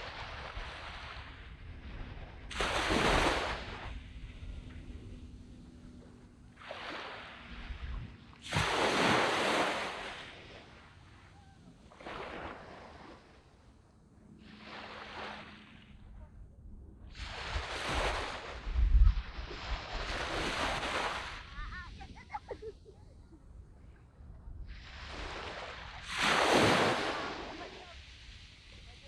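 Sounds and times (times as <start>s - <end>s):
small waves breaking on sand: 0.0s - 16.3s, 17.1s - 22.9s, 24.1s - 29.0s.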